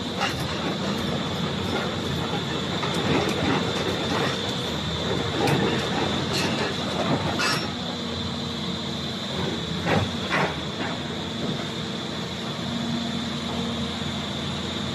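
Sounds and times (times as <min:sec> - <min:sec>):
excavator engine and hydraulics whining: 0:00.0 - 0:14.9.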